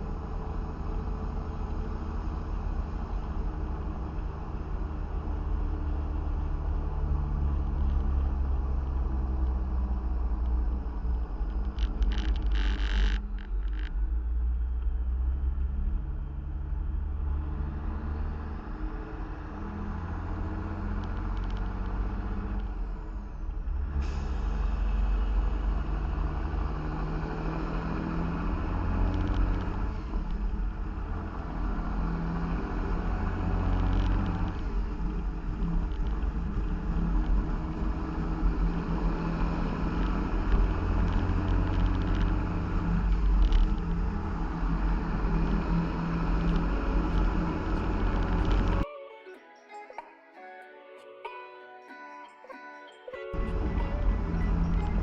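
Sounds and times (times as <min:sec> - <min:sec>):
diesel truck engine running: 0:00.0 - 0:48.8, 0:53.4 - 0:55.0.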